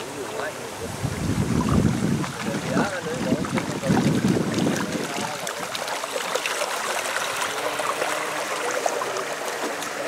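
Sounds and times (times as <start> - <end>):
water splashing: 0.0 - 10.0.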